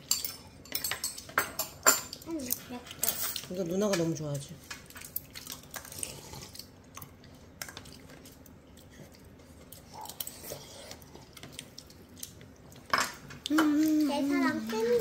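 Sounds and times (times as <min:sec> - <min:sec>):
child chewing food: 0:00.0 - 0:03.5, 0:04.6 - 0:15.0.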